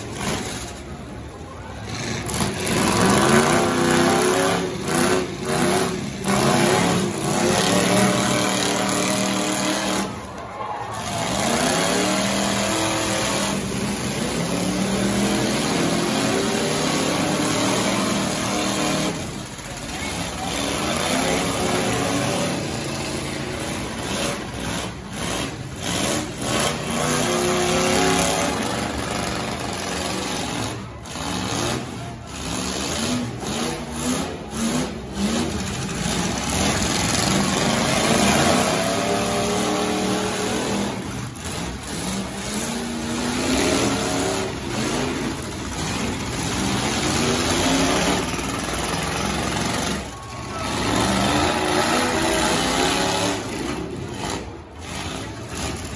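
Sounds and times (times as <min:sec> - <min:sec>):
truck engines revving: 0:00.0 - 0:55.9.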